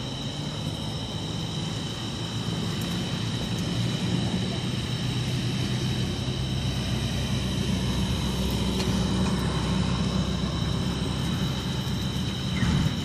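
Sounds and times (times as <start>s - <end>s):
high steady whine: 0.0s - 13.0s
highway traffic rumble: 0.0s - 13.0s.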